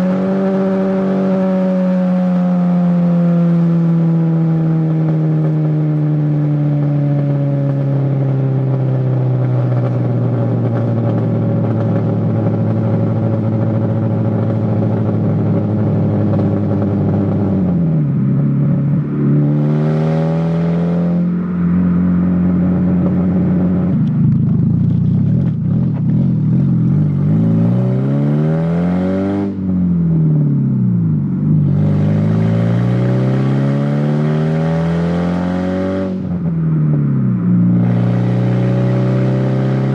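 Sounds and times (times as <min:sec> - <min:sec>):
car engine revving loud: 0:00.0 - 0:24.0, 0:26.2 - 0:30.6, 0:31.6 - 0:36.5, 0:37.7 - 0:39.9.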